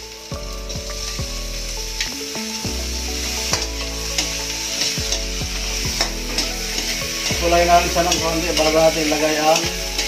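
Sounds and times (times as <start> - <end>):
food sizzling in a wok: 0.0 - 10.0
soft background music: 0.0 - 10.0.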